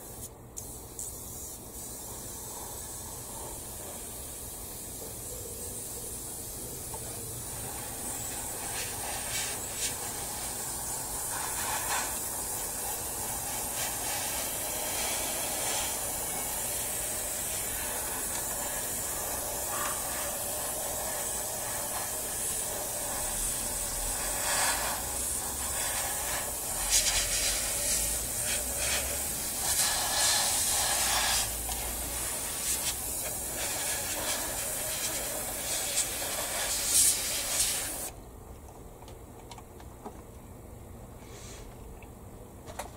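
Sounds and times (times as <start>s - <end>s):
airbrush spraying hiss: 0.0s - 38.2s.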